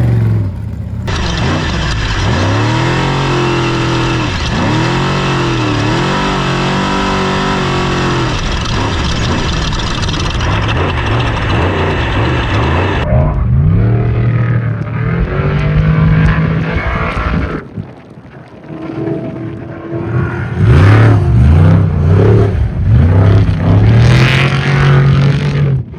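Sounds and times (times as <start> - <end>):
race truck engine revving: 0.0 - 17.7, 19.1 - 25.9.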